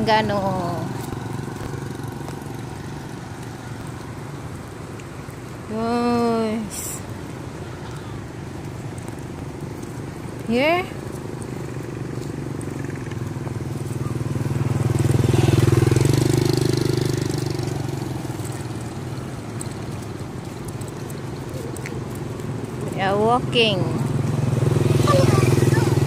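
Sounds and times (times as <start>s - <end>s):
vehicle engine passing by: 0.0s - 4.9s, 10.0s - 26.0s.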